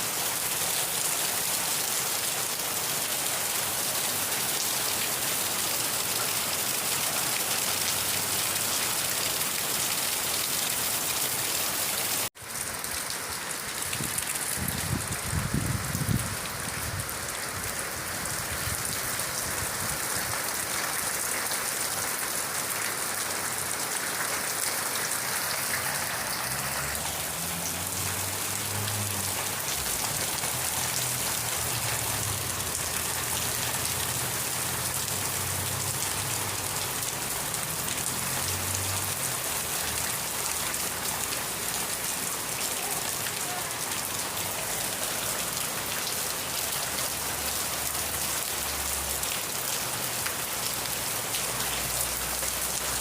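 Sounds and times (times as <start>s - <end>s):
steady rain spattering: 0.0s - 53.0s.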